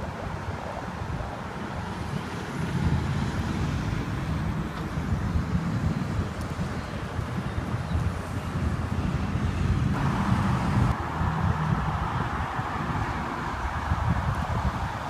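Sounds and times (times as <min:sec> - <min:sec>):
passing traffic: 0:00.0 - 0:15.0
wind rumble on microphone: 0:00.0 - 0:15.0.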